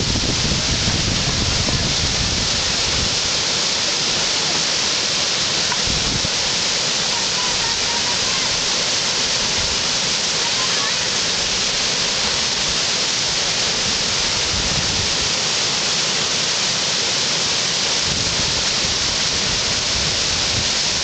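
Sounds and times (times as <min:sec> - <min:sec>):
river rapid rushing: 0:00.0 - 0:21.0.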